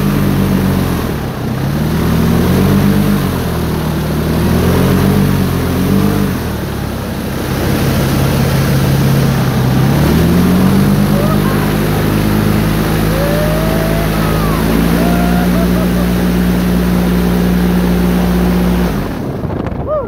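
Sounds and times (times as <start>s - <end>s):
airboat engine and propeller: 0.0s - 20.0s.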